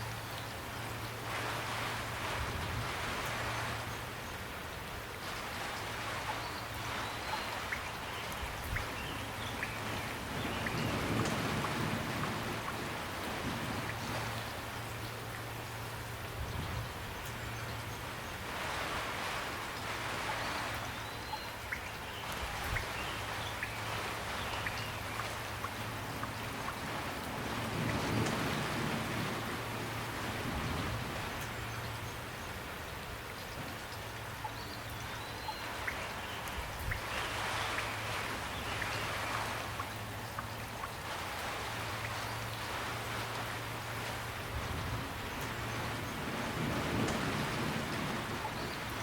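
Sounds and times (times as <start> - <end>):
raindrops ticking close by: 0.0 - 49.0
steady rain: 0.0 - 49.0.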